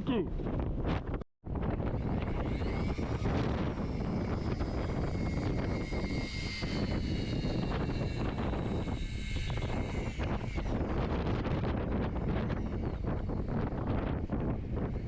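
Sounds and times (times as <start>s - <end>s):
wind buffeting microphone: 0.0s - 15.0s
boat engine drone: 1.5s - 15.0s
faint high whining tones: 1.8s - 15.0s.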